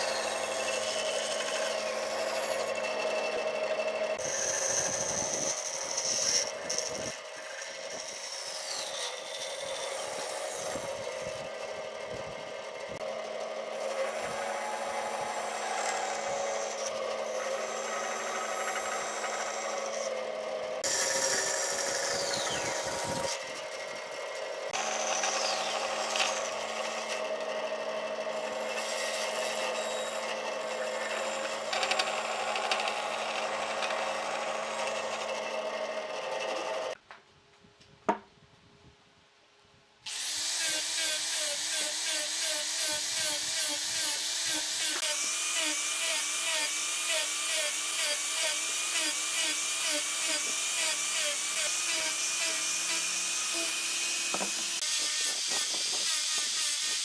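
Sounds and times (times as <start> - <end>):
band saw cutting wood: 0.0 - 37.0, 40.1 - 57.0.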